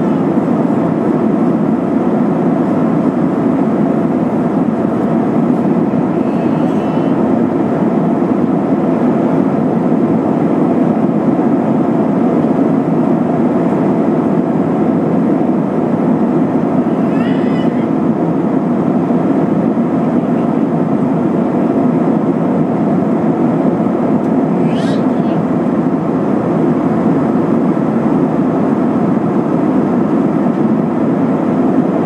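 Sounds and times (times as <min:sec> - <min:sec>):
jet engines humming: 0:00.0 - 0:32.0.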